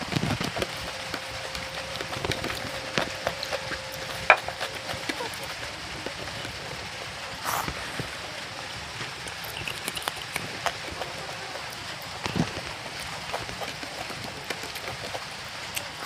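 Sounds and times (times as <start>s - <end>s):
fingers mixing rice: 0.0s - 16.0s
steady hiss: 0.0s - 16.0s
chewing with wet mouth clicks: 0.2s - 8.1s, 9.0s - 16.0s.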